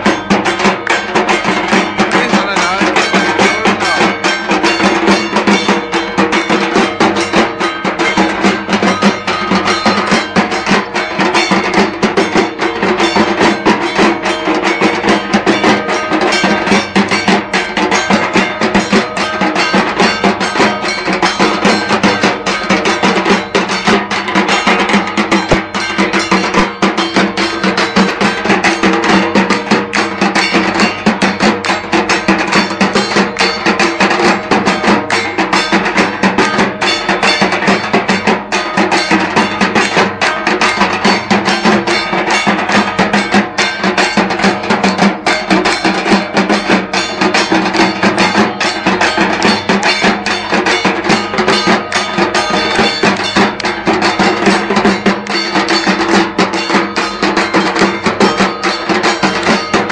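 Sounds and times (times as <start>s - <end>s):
fast drum percussion: 0.0s - 59.9s.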